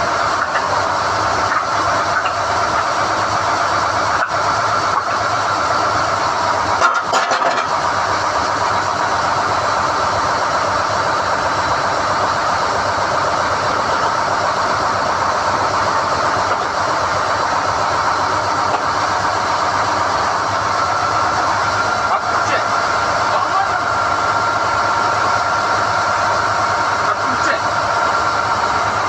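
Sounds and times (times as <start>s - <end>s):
drilling rig drone: 0.0s - 29.0s.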